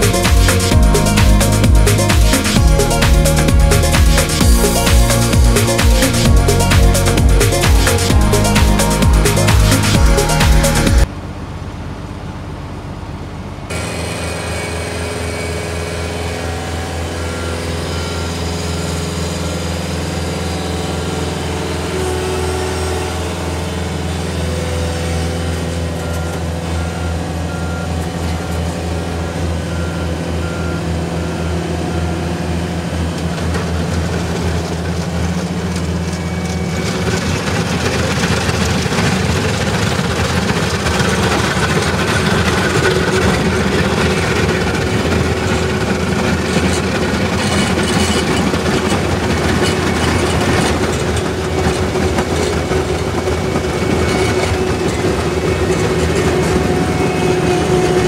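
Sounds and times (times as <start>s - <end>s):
planer grinding asphalt: 0.0s - 11.1s, 13.7s - 58.0s
loader engine running: 0.0s - 58.0s.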